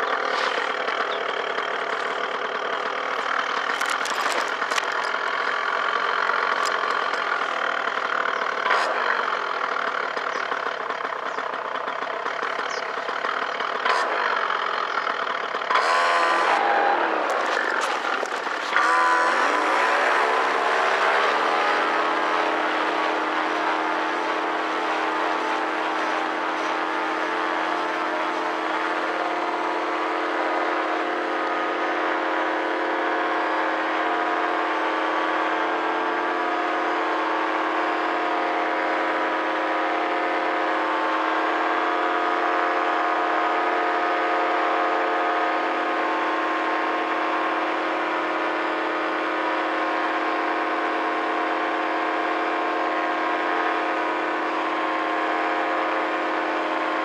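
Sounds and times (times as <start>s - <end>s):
paramotor engine and propeller drone: 0.0s - 57.0s.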